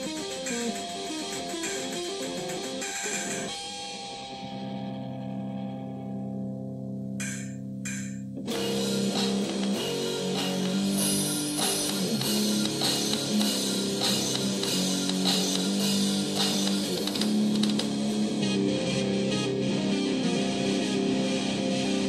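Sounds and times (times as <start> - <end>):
rock band playing: 0.0 - 4.1, 7.2 - 22.0.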